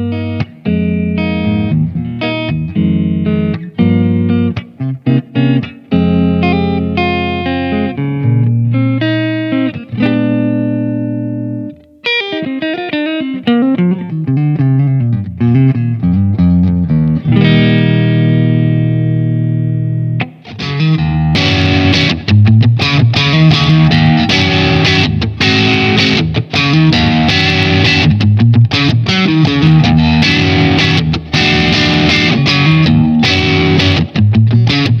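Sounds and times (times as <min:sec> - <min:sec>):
clean electric guitar: 0:00.0 - 0:35.0
distorted guitar strumming: 0:00.0 - 0:35.0.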